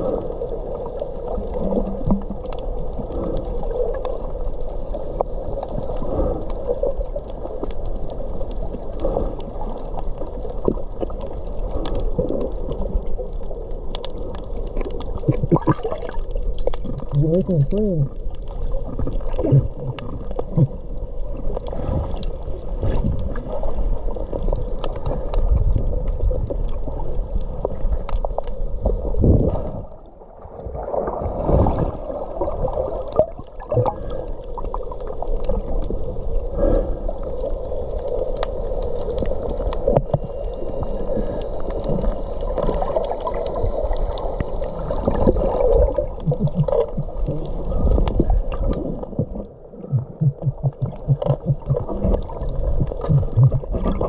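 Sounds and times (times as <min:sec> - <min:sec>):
underwater water rumble and gurgle: 0:00.0 - 0:54.0.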